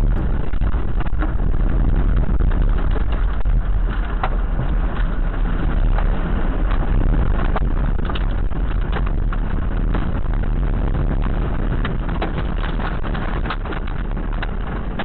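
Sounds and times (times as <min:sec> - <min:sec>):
rain and debris knocking on car: 0:00.0 - 0:15.0
tornado wind rushing: 0:00.0 - 0:15.0.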